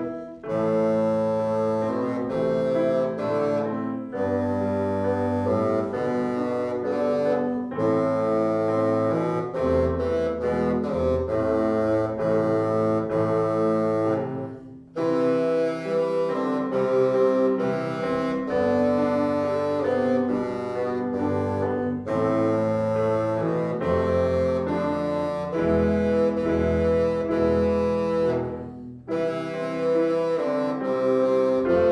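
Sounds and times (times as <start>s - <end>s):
bassoon melody: 0.0s - 31.9s
piano accompaniment: 0.0s - 31.9s.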